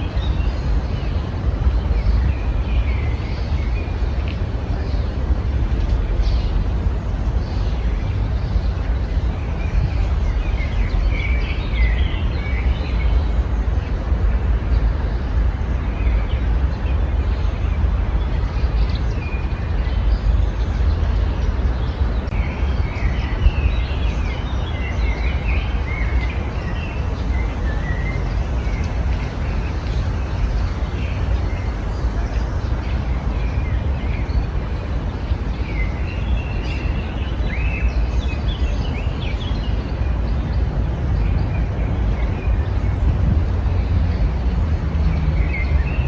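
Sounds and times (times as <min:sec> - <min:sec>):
songbirds chirping: 0:00.0 - 0:46.0
steady low rumble: 0:00.0 - 0:46.0.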